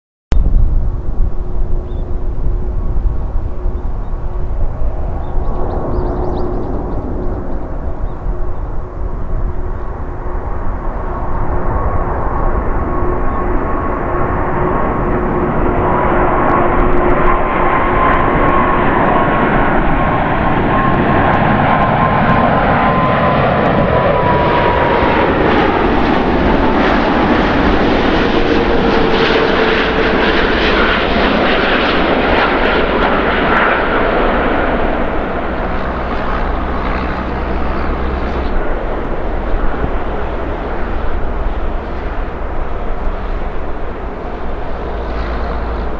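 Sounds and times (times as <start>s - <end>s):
jet airliner engines roaring: 0.4s - 45.9s.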